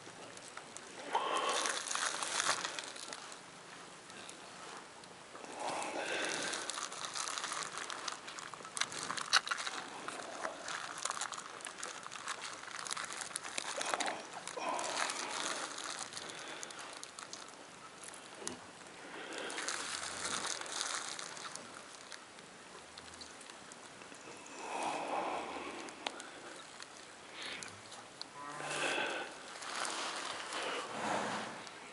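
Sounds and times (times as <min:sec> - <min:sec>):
straw rustling: 0:00.0 - 0:31.9
plastic sleeve crinkling: 0:00.4 - 0:03.4, 0:05.5 - 0:18.5, 0:19.2 - 0:23.9, 0:25.8 - 0:31.0.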